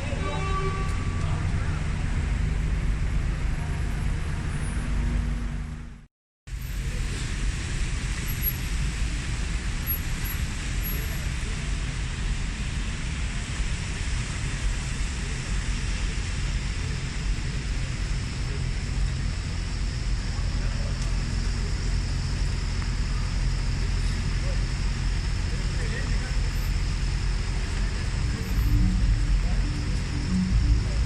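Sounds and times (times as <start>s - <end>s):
city road traffic noise: 0.0s - 31.0s.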